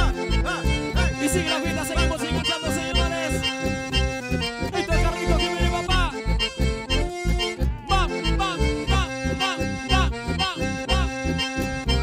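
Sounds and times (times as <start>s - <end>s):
pulsing bass beat: 0.0s - 12.0s
sliding lead melody: 0.0s - 12.0s.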